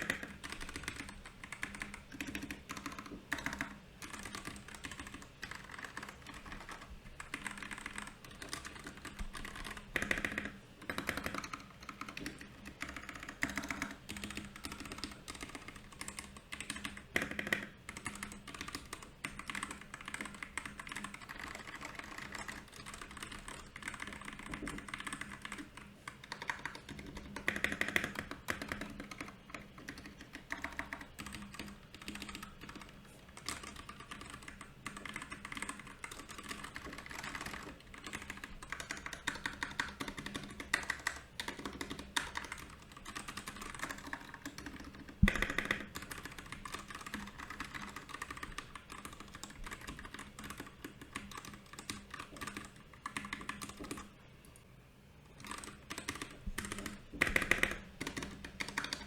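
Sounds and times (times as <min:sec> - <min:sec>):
mechanical keyboard typing: 0:00.0 - 0:54.6, 0:55.2 - 0:59.0.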